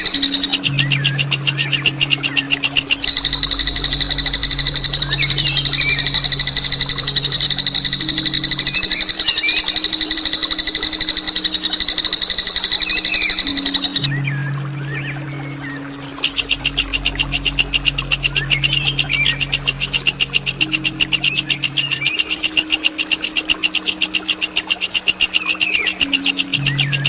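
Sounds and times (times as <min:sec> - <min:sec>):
songbird rapid trill: 0:00.0 - 0:14.3, 0:15.7 - 0:27.0
faint bird chirps: 0:00.0 - 0:27.0.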